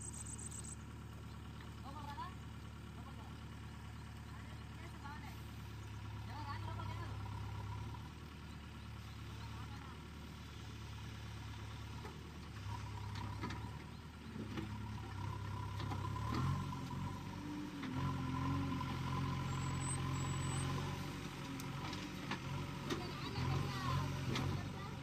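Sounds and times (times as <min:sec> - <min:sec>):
backhoe diesel engine running: 0:00.0 - 0:25.0.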